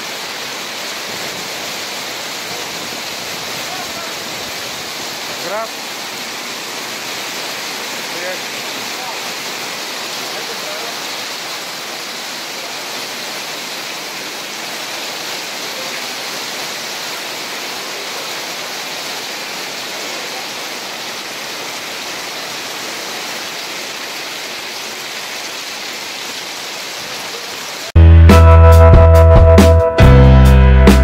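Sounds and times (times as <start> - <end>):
heavy rain on a plastic roof: 0.0 - 28.0
rain splashing on pavement: 0.0 - 28.0.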